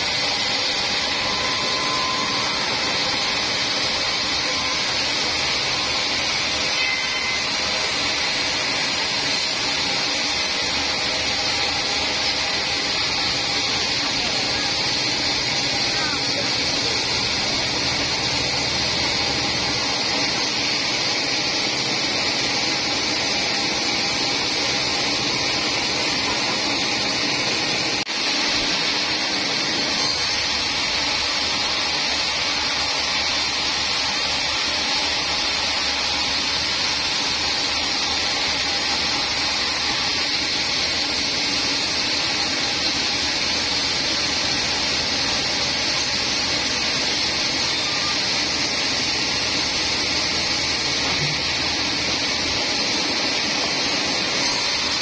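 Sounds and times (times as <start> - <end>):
band saw cutting wood: 0.0 - 55.0.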